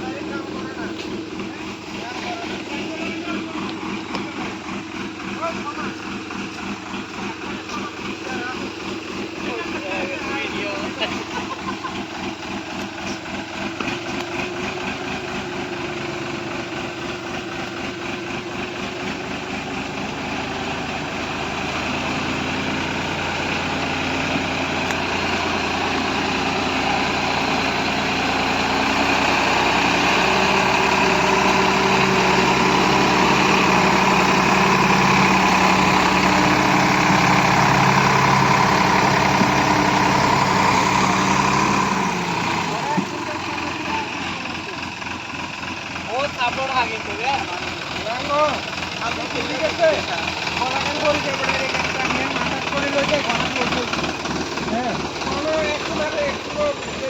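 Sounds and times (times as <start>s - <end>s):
tractor diesel engine: 0.0s - 57.0s.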